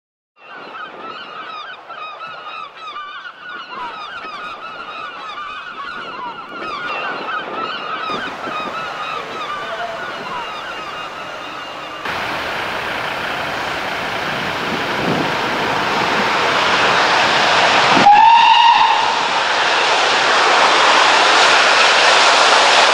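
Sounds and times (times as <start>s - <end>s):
flock of birds calling: 0.4s - 19.0s.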